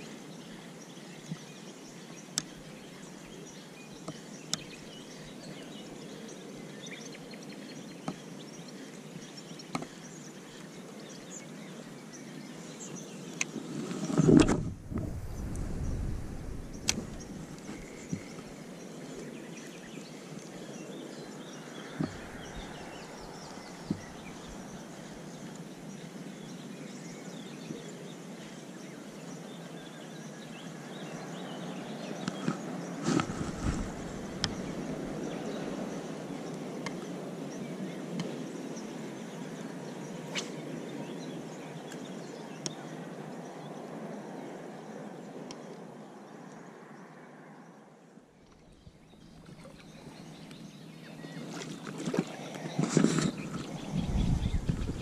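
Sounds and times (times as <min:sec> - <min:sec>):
outdoor background noise: 0:00.0 - 0:55.0.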